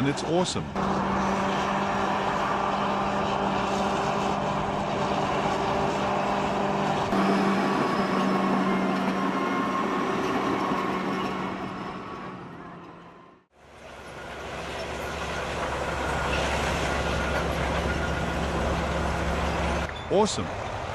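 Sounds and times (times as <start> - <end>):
bulldozer diesel engine running: 0.6 - 20.9.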